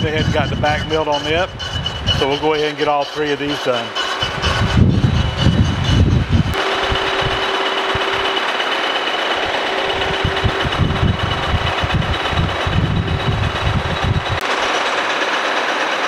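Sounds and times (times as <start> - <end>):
milling cutter hissing: 0.0 - 16.0.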